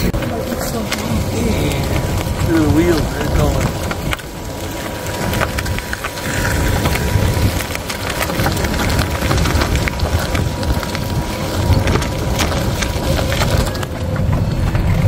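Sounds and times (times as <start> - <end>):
low rumble: 0.0 - 15.0
tyres crunching on gravel: 0.0 - 15.0.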